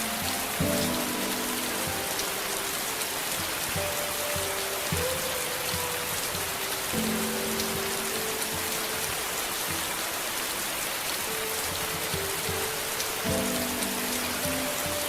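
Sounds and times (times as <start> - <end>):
rain hiss: 0.0 - 15.0
soft low music notes: 0.0 - 15.0.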